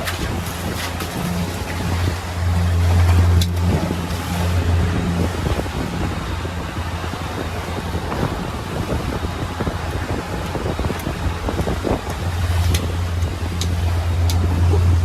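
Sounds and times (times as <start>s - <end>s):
boat engine humming: 0.0s - 15.0s
rush of wind and water: 0.0s - 15.0s.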